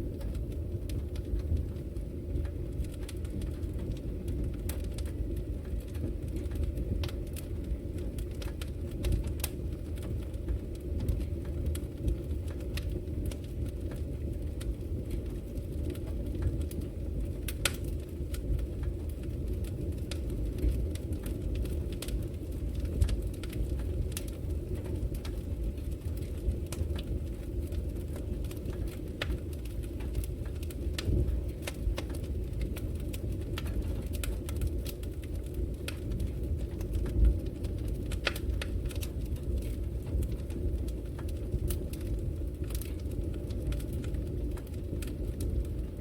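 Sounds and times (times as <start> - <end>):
fire popping and snapping: 0.0 - 46.0
flames rumbling: 0.0 - 46.0.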